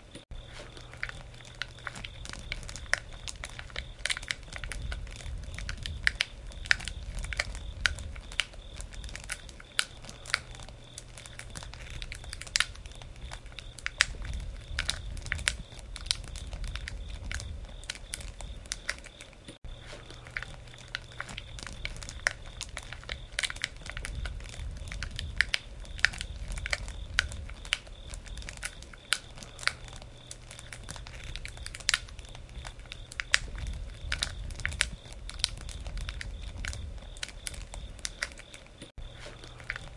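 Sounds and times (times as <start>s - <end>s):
campfire pops and snaps: 0.0s - 39.9s
low rumble of flames: 0.0s - 39.9s.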